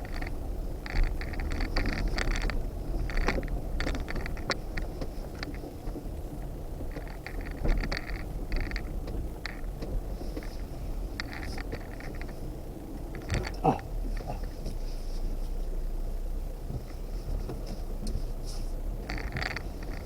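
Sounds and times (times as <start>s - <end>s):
clicks creaks and scrapes: 0.0s - 6.0s, 6.8s - 12.4s, 13.1s - 14.9s, 17.3s - 20.0s
vehicle engine and tyre rumble: 0.0s - 20.0s.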